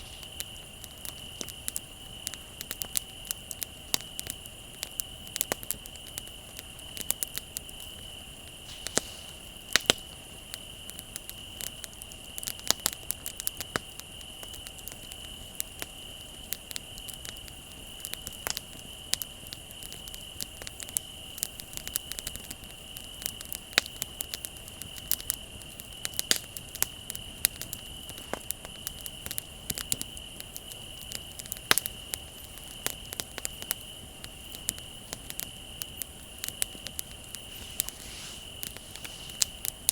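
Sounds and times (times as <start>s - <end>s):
bonfire crackling and popping: 0.0s - 39.9s
crickets trilling: 0.0s - 39.9s.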